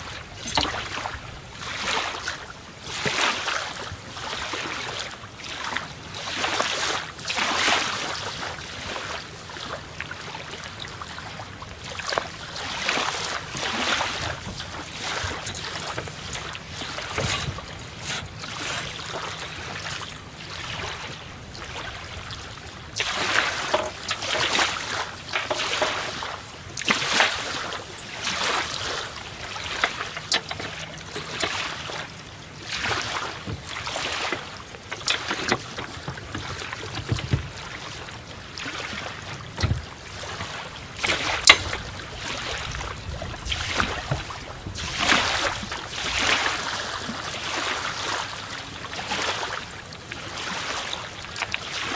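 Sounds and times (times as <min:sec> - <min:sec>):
water sloshing and lapping: 0:00.0 - 0:51.9.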